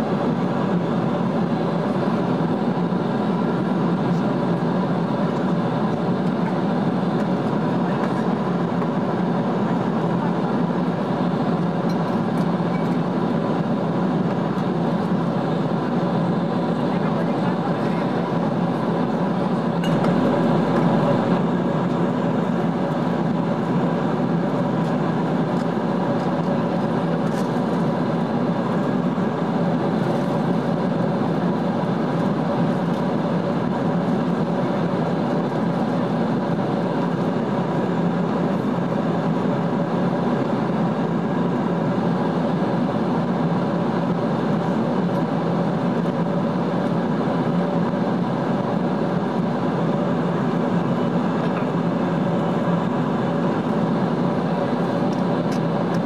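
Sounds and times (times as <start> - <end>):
airplane cabin engine rush: 0.0 - 56.0.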